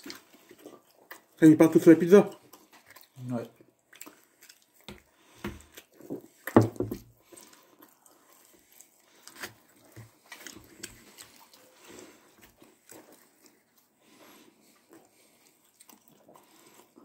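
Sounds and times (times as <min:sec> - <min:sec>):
chewing pizza crust: 0:00.0 - 0:17.0.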